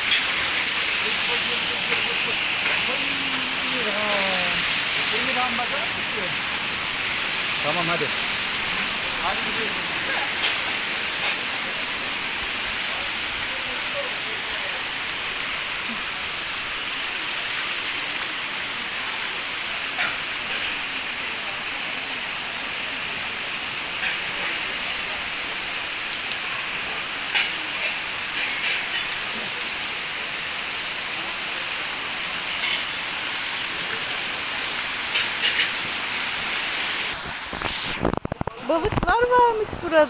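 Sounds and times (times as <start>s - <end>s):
waterfall rushing hiss: 0.0s - 40.0s.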